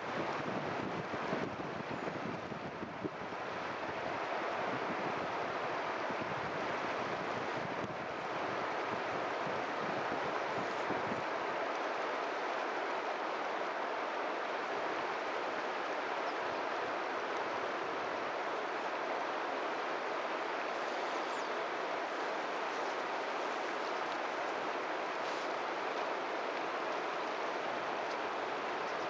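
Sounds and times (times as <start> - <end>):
steady rushing outdoor noise: 0.0 - 29.0.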